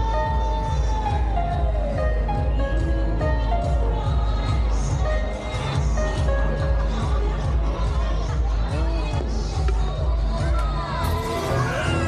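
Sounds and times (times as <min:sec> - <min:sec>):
music with pulsing bass beat: 0:00.0 - 0:12.0.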